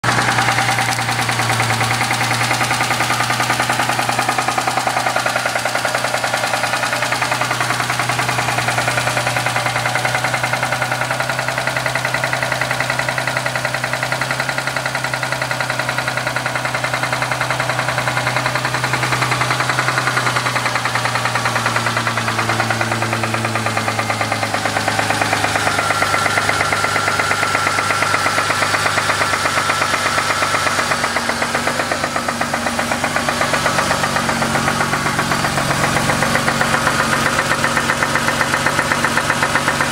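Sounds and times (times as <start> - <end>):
car engine with fast knock: 0.0 - 39.9.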